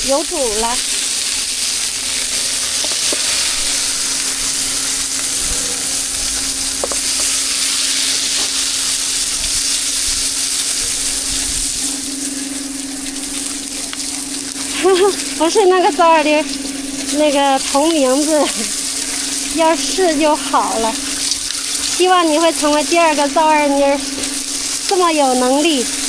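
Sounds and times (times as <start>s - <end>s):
food sizzling in a pan: 0.0s - 26.0s
steady low hum: 0.0s - 26.0s.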